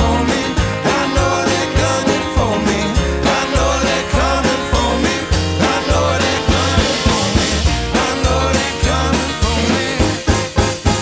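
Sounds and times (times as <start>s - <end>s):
man singing lead vocal: 0.0s - 10.7s
bluegrass band playing: 0.0s - 11.0s.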